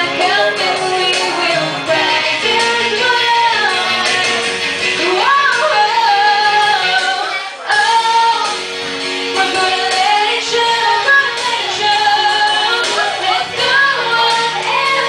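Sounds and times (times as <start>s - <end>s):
backing music track: 0.0s - 15.0s
woman singing into microphone: 0.0s - 15.0s.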